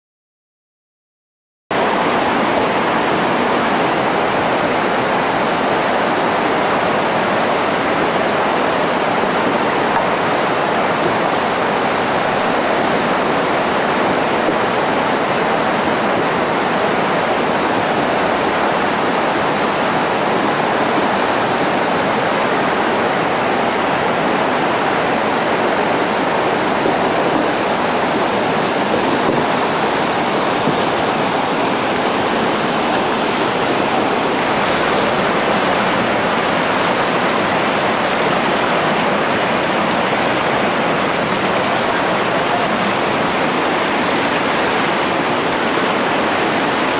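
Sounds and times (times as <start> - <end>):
whitewater rapids rushing over rocks: 1.7 - 46.9.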